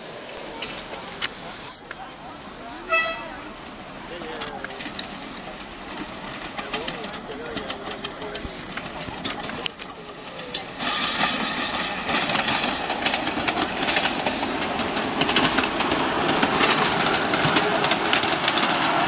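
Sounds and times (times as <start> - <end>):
hissing steam: 0.0 - 19.0
wheels clicking on track: 0.1 - 19.0.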